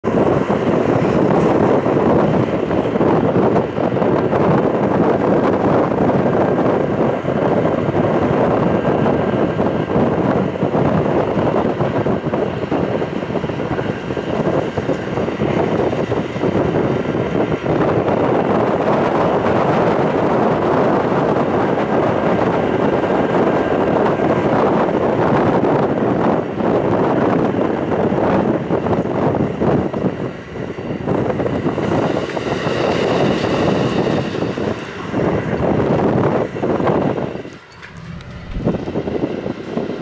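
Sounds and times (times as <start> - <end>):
passenger train rumbling: 0.0 - 40.0
wind over the microphone: 0.0 - 40.0.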